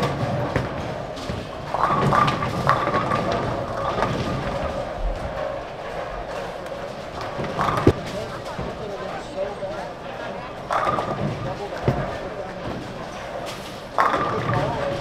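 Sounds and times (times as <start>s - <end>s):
bowling pins crashing: 0.0s - 9.1s, 10.6s - 15.0s
bowling balls rolling: 0.0s - 15.0s.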